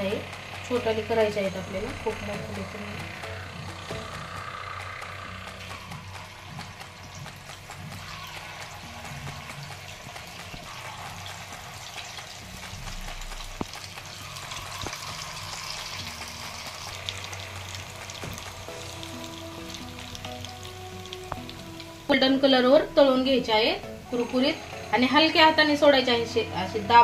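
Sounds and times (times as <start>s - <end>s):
sharp clicks: 0.0s - 21.9s
batter deep-frying in oil: 0.0s - 27.0s.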